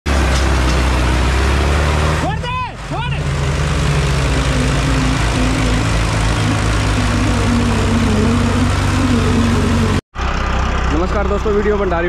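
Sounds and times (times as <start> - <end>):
tractor diesel engine running: 0.1 - 12.0.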